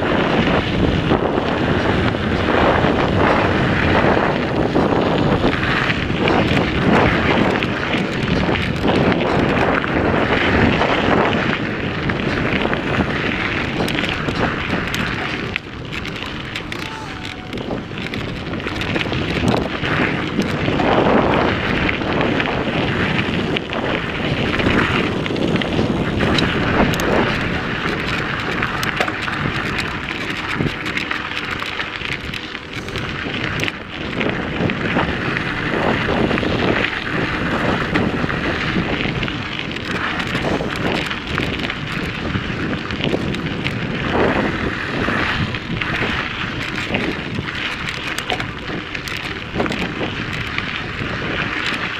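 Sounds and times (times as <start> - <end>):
bike rattling over bumps: 0.0 - 51.9
tyres crunching on gravel: 0.0 - 51.9
wind rush on microphone: 0.0 - 51.9.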